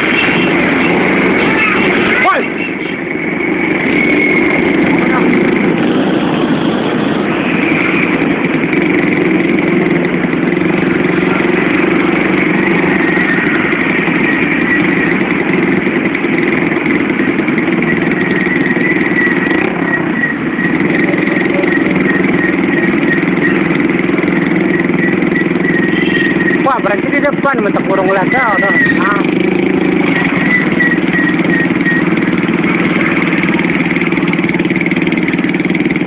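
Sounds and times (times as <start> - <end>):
motorcycle engine running: 0.0 - 36.0
road noise: 0.0 - 36.0.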